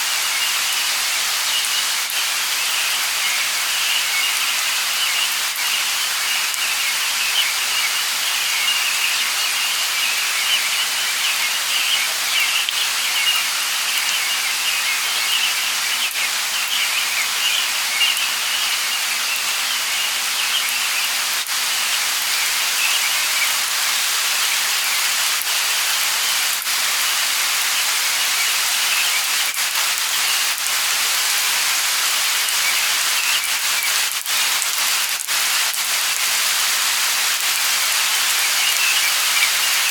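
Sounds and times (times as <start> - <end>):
birds chirping: 0.0 - 39.9
light rain hissing: 0.0 - 39.9
rain drop ticks: 0.1 - 39.9.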